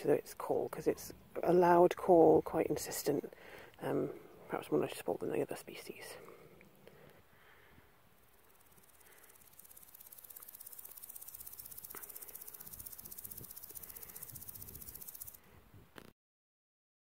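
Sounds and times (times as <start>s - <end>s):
grasshopper stridulating: 0.0s - 15.6s.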